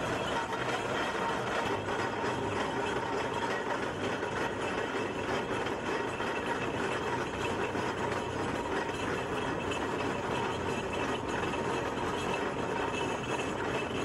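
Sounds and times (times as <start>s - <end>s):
steam roller running: 0.0s - 14.0s.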